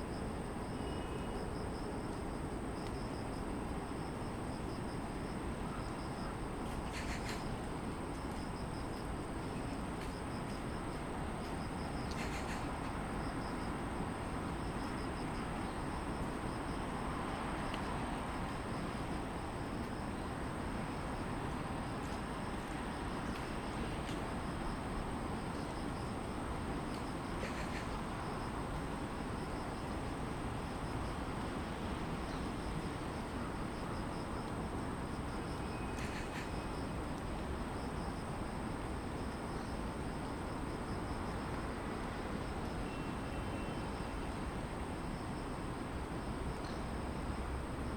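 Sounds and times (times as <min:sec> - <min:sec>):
distant city traffic hum: 0:00.0 - 0:47.9.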